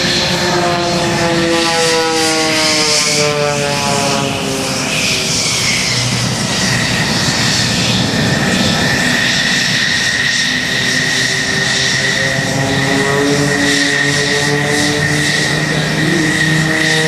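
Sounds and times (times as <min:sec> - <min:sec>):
propeller planes flying by: 0:00.0 - 0:17.0.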